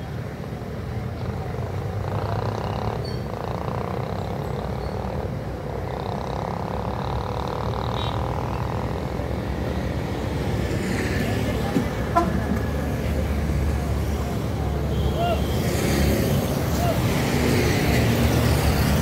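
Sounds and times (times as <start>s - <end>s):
distant road traffic rumble: 0.0s - 19.0s
motorcycle and truck engines: 0.0s - 19.0s.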